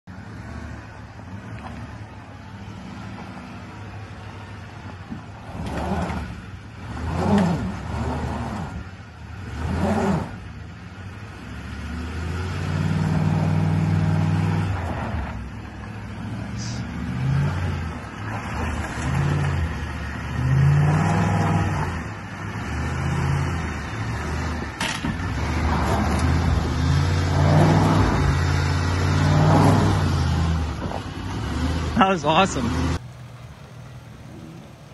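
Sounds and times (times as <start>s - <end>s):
pickup engine revving: 0.1s - 34.9s.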